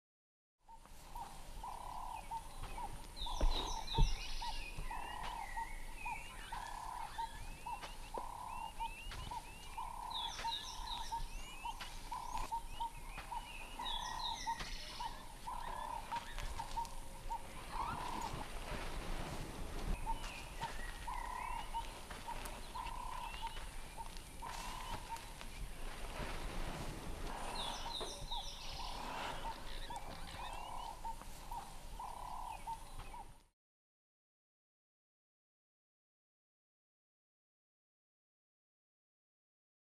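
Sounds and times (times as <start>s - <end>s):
bird song: 0.6s - 33.5s.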